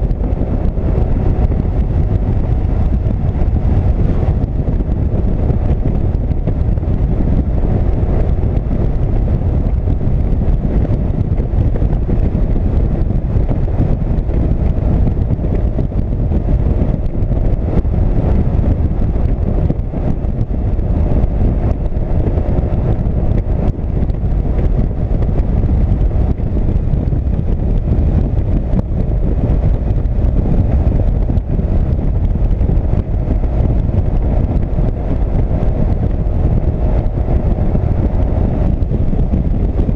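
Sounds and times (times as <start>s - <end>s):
motorcycle engine: 0.0s - 39.9s
wind rushing: 0.0s - 39.9s.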